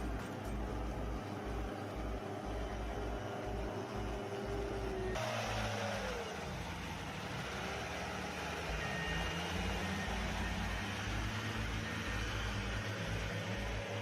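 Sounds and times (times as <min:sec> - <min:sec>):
construction machinery engine: 0:00.0 - 0:14.0.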